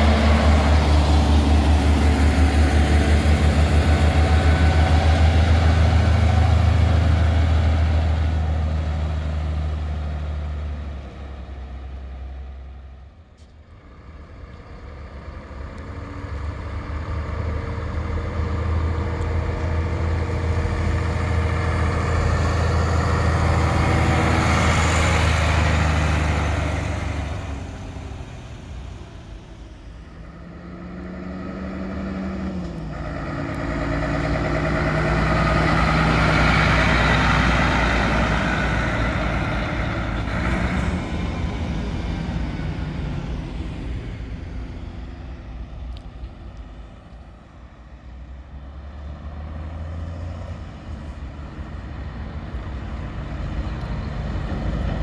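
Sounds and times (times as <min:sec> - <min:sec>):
diesel lorries driving past: 0:00.0 - 0:55.0.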